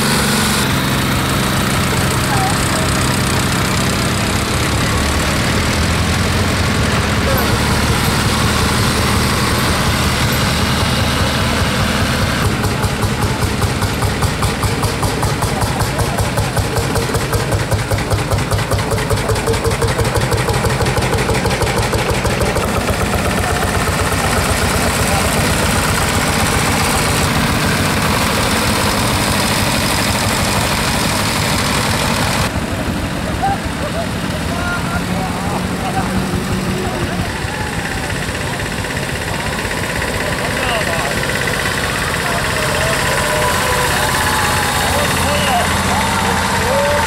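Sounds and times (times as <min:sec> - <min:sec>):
single-cylinder engine beating: 0:00.0 - 0:47.0
tractor diesel engine running: 0:00.0 - 0:47.0.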